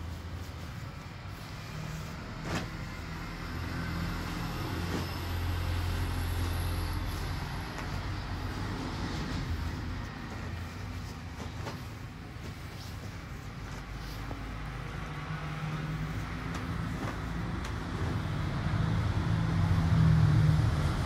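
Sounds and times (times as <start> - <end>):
clothes being handled: 0.0 - 19.8.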